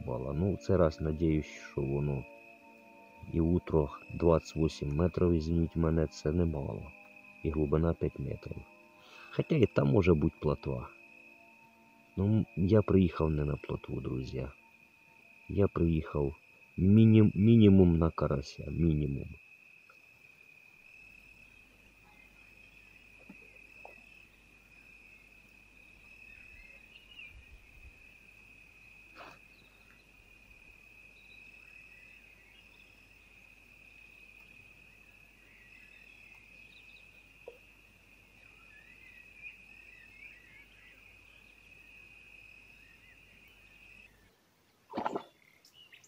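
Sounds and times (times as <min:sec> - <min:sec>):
cricket trilling: 0:00.0 - 0:46.0.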